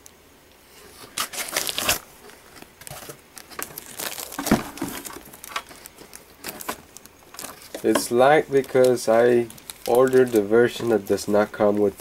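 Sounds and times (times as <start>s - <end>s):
packaging crinkling and rustling: 0.8s - 12.0s.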